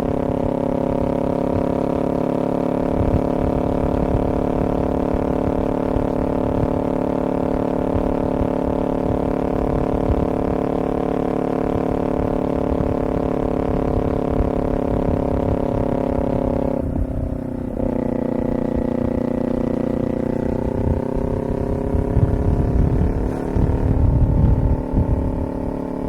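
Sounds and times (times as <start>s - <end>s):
low wind rumble: 0.0s - 26.0s
vehicle engine running: 0.0s - 26.0s.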